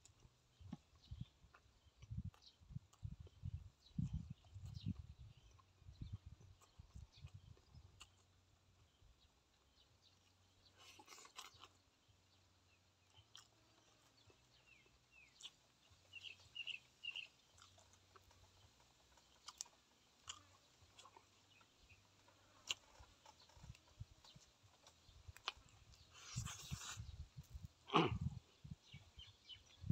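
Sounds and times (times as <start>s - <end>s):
person chewing: 0.0s - 28.7s.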